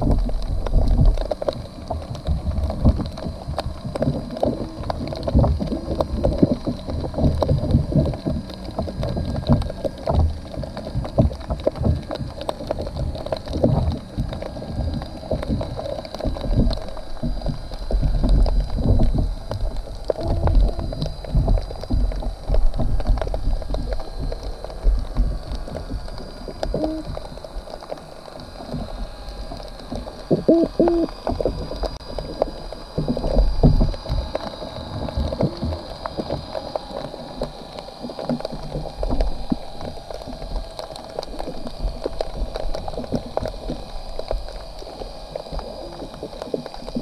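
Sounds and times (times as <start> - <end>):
underwater rumble of water: 0.0 - 47.0.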